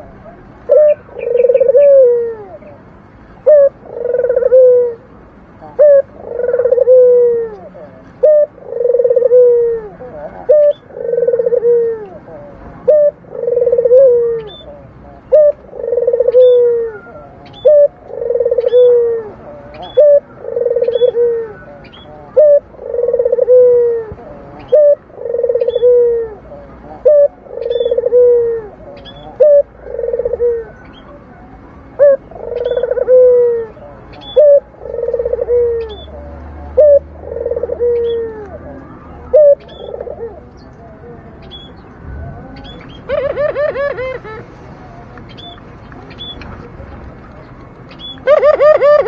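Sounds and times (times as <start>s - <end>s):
dove cooing: 0.0s - 2.8s, 3.4s - 45.6s, 48.0s - 49.0s.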